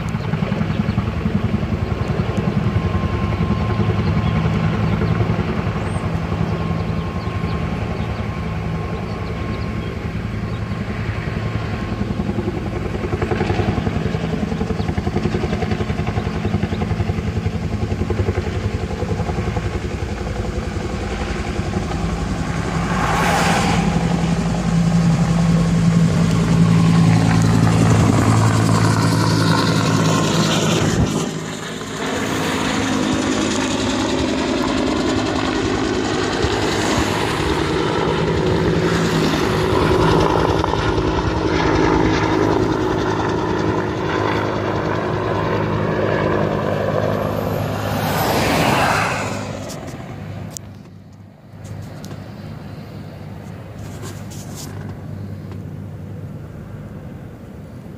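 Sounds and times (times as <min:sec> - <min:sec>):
helicopter rotor drone: 0:00.0 - 0:57.9.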